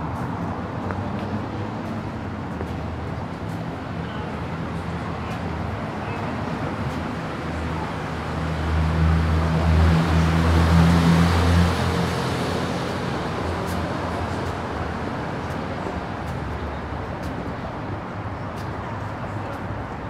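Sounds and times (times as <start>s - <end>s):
background traffic noise: 0.0s - 20.0s.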